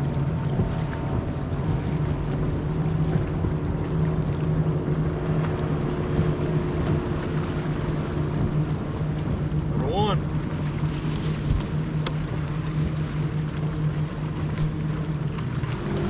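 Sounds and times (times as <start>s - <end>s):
boat motor humming: 0.0s - 16.0s
wind and water rush: 0.0s - 16.0s.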